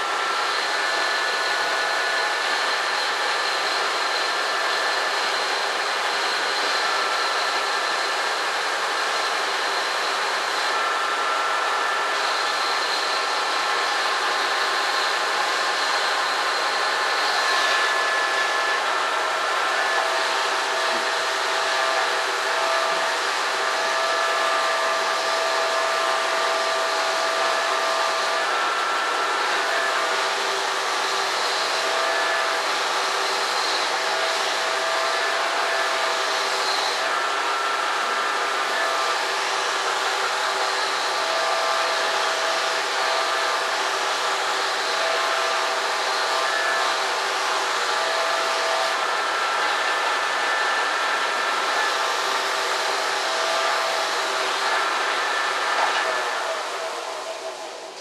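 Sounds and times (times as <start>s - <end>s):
electric motor whirring: 9.8s - 58.0s.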